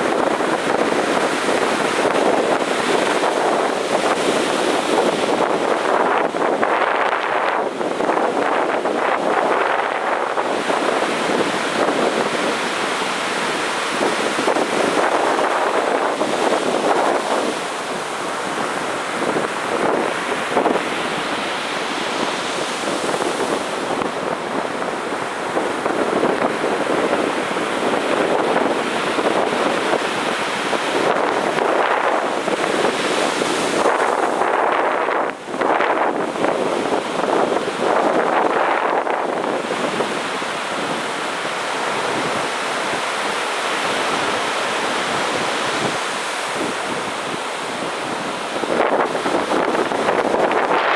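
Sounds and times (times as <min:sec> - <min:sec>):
heavy surf breaking: 0:00.0 - 0:50.9.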